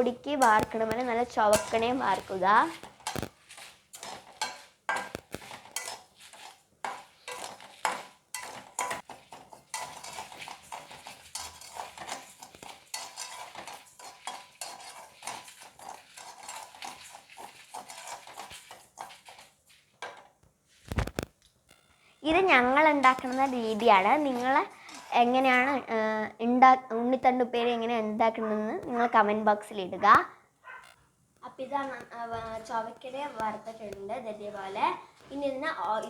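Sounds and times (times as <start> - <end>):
spatula scraping a wok: 0.0 - 26.2, 30.8 - 36.0.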